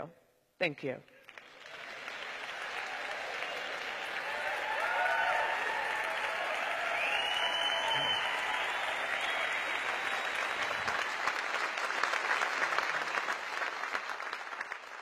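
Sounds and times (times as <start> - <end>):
audience applauding: 1.2 - 15.0.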